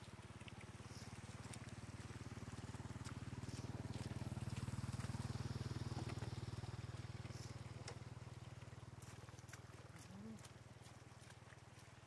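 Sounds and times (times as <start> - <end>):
small engine running: 0.0 - 11.7.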